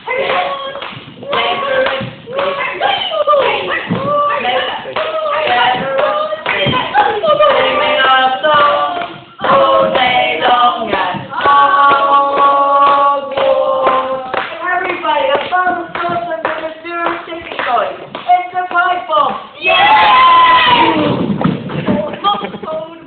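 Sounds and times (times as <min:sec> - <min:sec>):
voices singing or chanting: 0:00.0 - 0:23.0
hand claps: 0:00.2 - 0:18.9.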